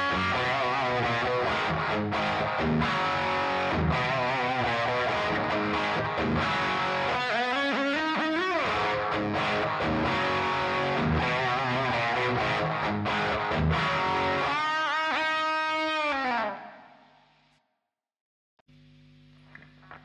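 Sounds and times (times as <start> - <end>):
overdriven electric guitar lead: 0.0 - 16.9.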